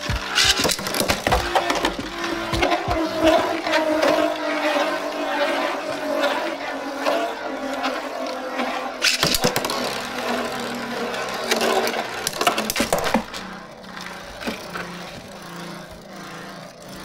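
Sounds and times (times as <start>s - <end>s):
spinning tops whirring: 0.0s - 17.0s.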